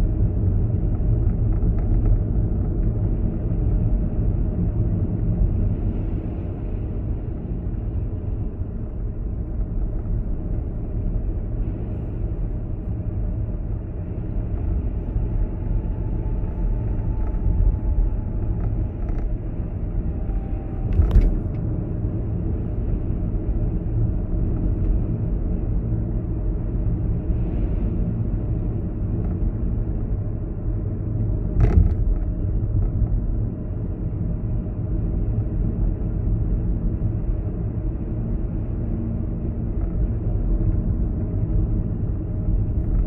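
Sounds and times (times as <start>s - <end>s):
car driving rumble: 0.0s - 43.0s.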